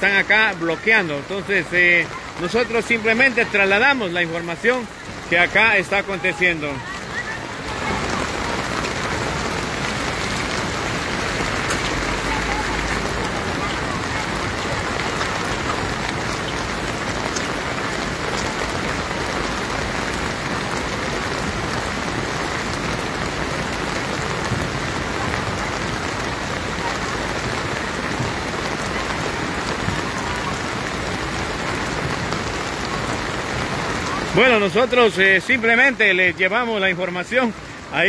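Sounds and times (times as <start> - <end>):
heavy rain on wet road: 0.0 - 38.0.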